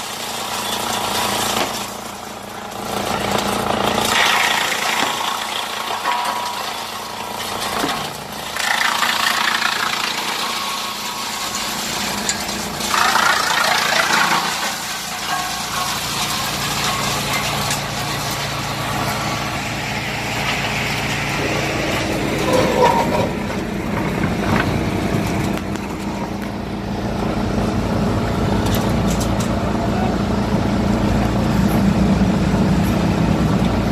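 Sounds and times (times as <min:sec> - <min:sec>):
deep engine drone: 0:00.0 - 0:33.9
diesel engine running: 0:00.0 - 0:33.9
wood chipper running: 0:00.0 - 0:33.9.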